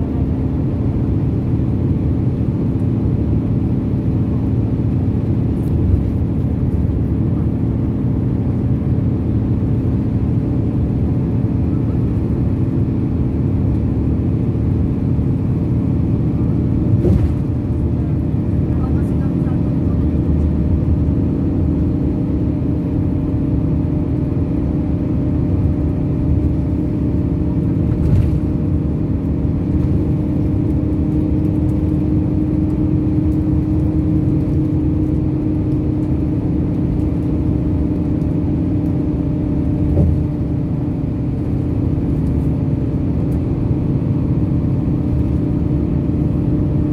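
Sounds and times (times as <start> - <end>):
vehicle road rumble and engine drone: 0.0 - 46.9.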